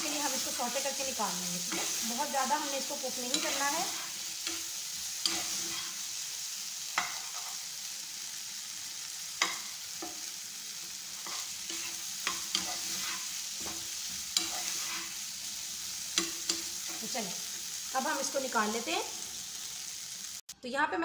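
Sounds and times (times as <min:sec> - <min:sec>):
food sizzling in frying pan: 0:00.0 - 0:20.6.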